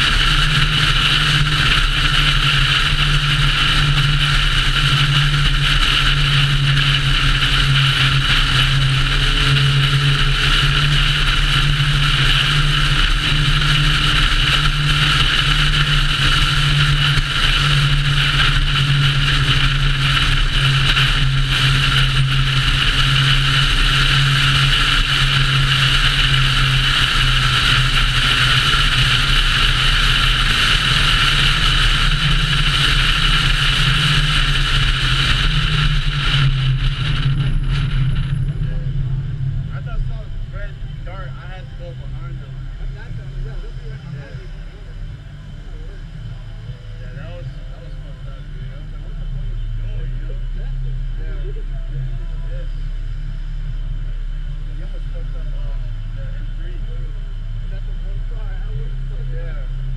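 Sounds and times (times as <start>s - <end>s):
car engine drone: 0.0s - 59.9s
road and wind noise: 0.0s - 59.9s.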